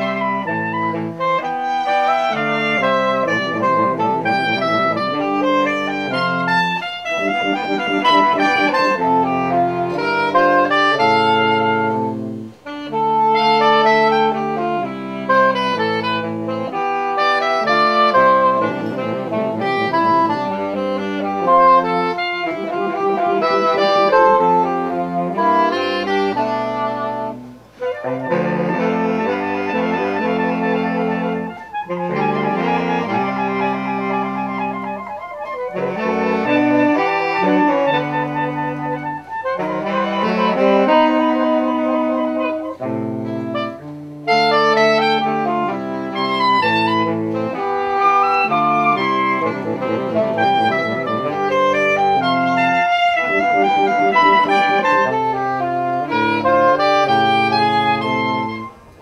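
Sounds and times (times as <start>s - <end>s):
saxophone quartet playing: 0.0s - 59.0s.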